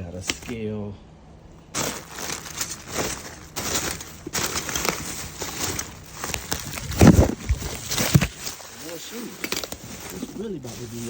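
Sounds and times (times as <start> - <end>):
rustling and crinkling items: 1.7 - 11.0.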